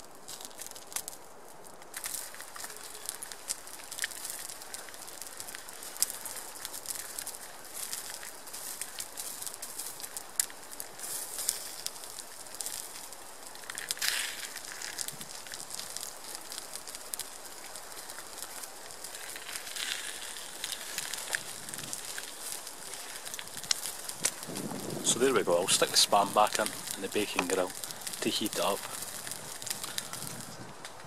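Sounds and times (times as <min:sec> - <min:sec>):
crackling pops: 0:00.0 - 0:31.0
food sizzling in a frying pan: 0:02.0 - 0:30.6.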